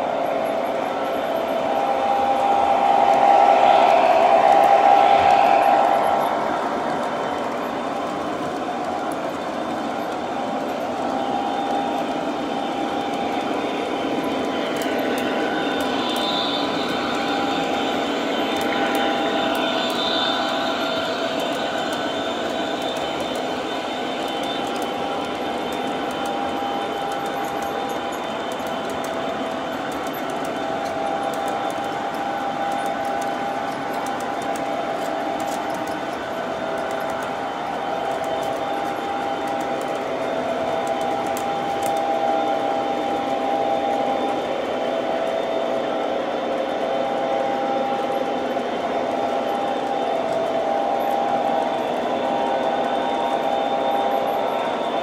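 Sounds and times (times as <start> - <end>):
model train wheels rumbling: 0.0 - 54.3
thin steady whine: 0.0 - 55.0.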